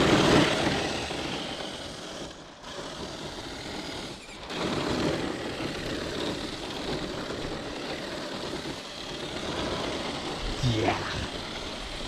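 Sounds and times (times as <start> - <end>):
toy truck motor whirring: 0.0 - 10.5.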